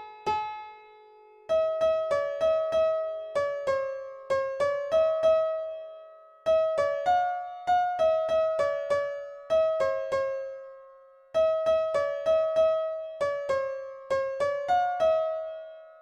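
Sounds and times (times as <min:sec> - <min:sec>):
slow piano-like keyboard melody: 0:00.0 - 0:16.0.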